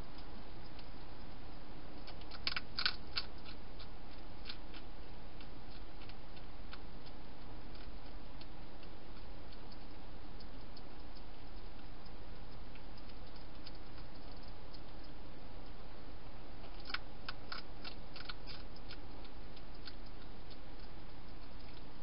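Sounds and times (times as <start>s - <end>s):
hedgehog crunching dry food: 2.0s - 15.2s, 16.6s - 22.0s.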